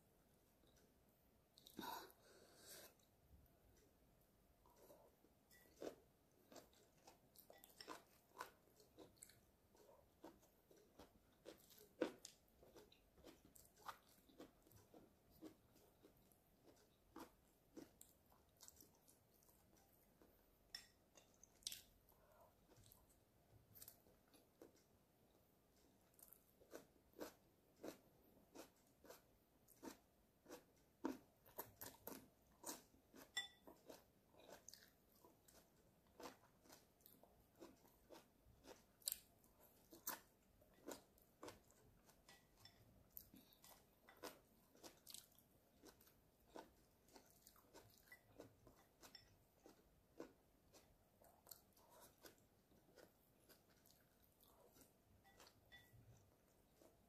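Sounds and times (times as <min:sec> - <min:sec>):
chewing with crunches: 0:04.6 - 0:57.0.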